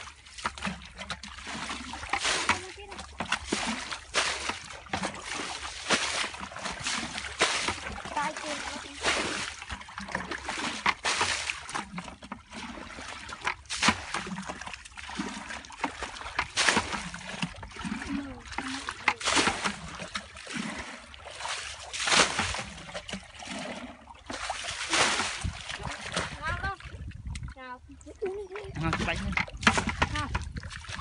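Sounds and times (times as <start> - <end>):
water sloshing and trickling: 0.0 - 31.0
water splashing from bucket: 0.0 - 31.0.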